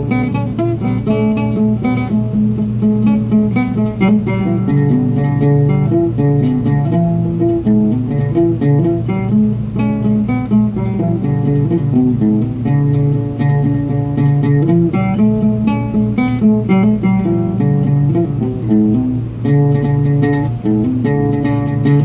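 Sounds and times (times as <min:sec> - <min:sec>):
oud plucked melody: 0:00.0 - 0:22.0.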